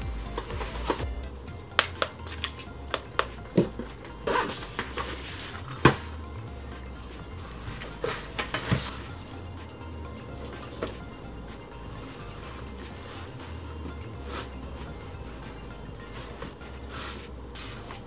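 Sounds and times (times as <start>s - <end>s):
light background music: 0.0s - 18.0s.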